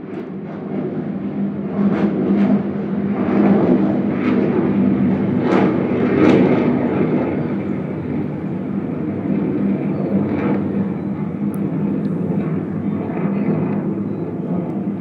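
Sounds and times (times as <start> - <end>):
airplane engine rush: 0.0 - 15.0
low hum: 2.6 - 15.0.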